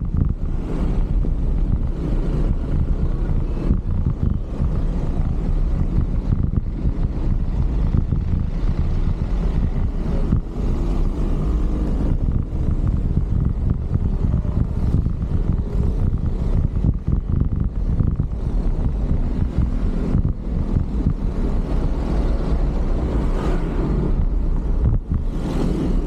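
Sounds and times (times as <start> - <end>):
passing vehicle engine hum: 0.0 - 26.0
road traffic noise: 0.0 - 26.0
wind buffeting microphone: 0.0 - 26.0.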